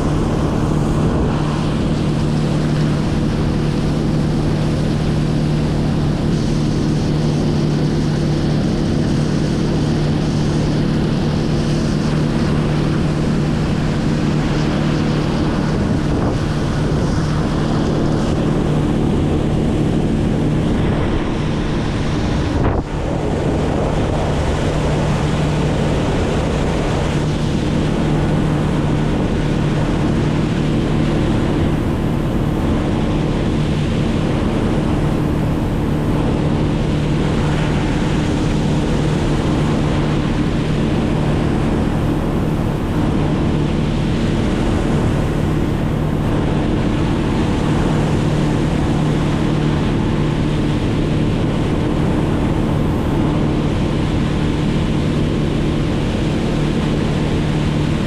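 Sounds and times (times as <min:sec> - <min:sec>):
engine running steadily: 0:00.0 - 0:58.0
wind on microphone: 0:00.0 - 0:58.0.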